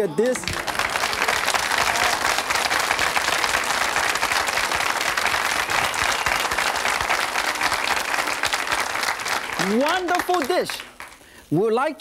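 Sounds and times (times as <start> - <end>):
audience applauding: 0.3 - 11.3.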